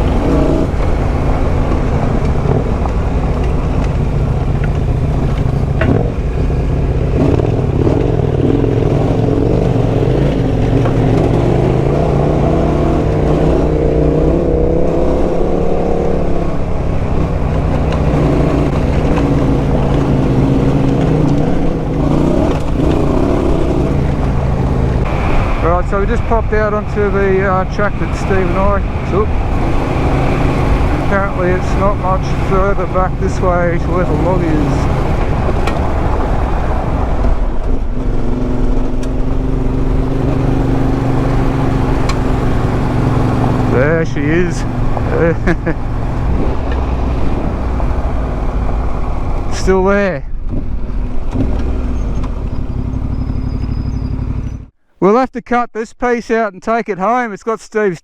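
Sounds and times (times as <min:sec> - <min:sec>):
wind on microphone: 0:00.0 - 0:49.6
dirt bike engine running: 0:00.0 - 0:54.7.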